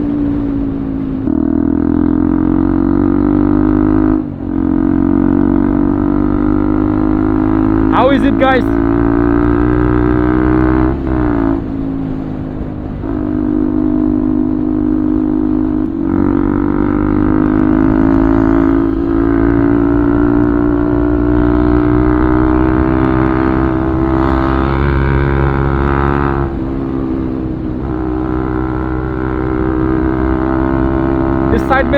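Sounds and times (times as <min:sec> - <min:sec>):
motorcycle engine changing gears: 0:00.0 - 0:31.9.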